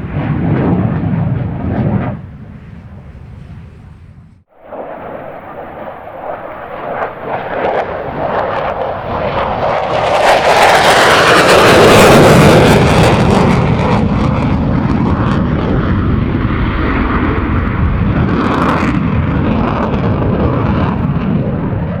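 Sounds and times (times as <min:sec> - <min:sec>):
fighter jet passing overhead: 0:00.0 - 0:22.0.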